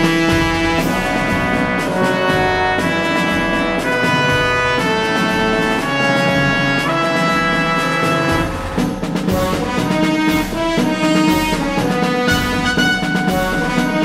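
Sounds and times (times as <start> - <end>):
brass and orchestra music: 0.0 - 14.0.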